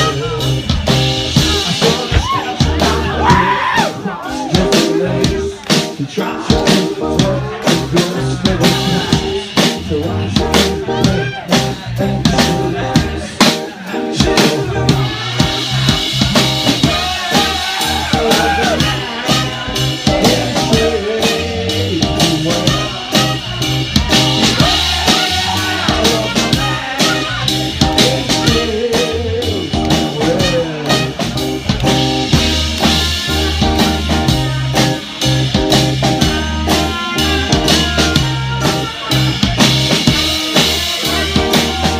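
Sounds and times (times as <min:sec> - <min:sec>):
drum kit beat: 0:00.0 - 0:41.9
live band playing: 0:00.0 - 0:41.9.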